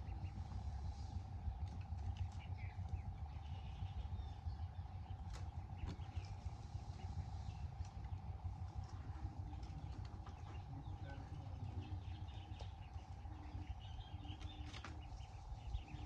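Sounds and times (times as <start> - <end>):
low outdoor background noise: 0.0 - 16.0
small birds chirping: 0.0 - 16.0.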